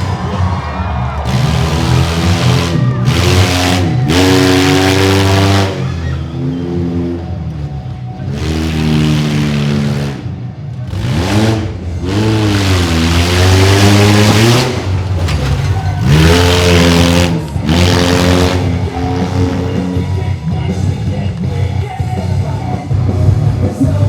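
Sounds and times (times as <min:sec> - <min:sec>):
small truck engine revving: 0:01.2 - 0:20.8.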